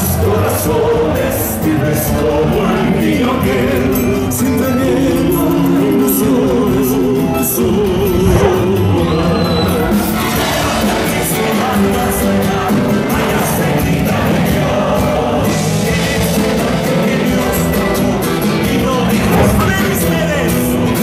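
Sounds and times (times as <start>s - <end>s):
live band playing amplified music: 0.1s - 21.0s.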